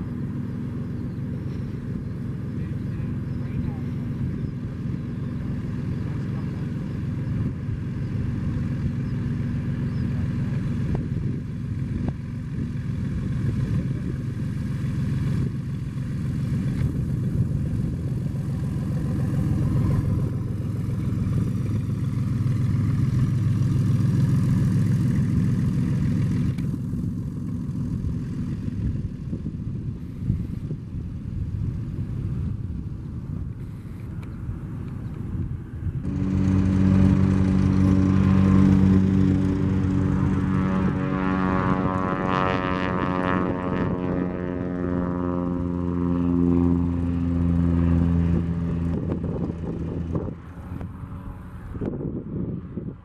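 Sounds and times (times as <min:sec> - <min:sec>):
propeller plane engine: 0:00.0 - 0:53.0.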